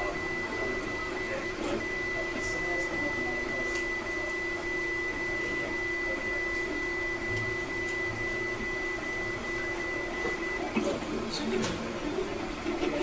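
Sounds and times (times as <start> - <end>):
three d printer whirring: 0.0 - 13.0.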